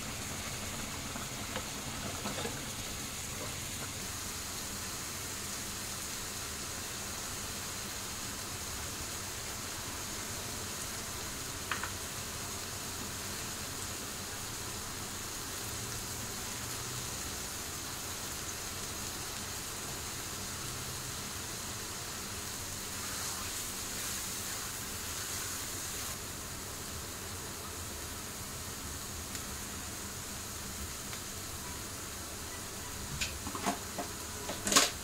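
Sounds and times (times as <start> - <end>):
food sizzling in a frying pan: 0.0 - 35.0.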